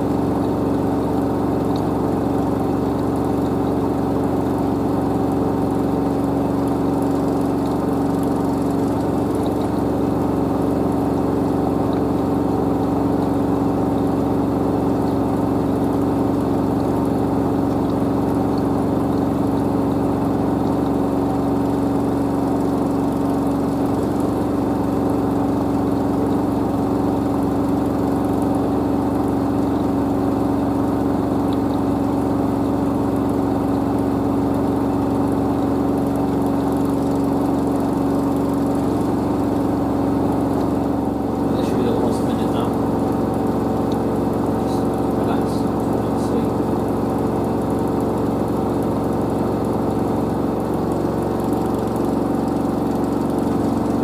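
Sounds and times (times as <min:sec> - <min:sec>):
washing machine drum spinning: 0:00.0 - 0:54.0.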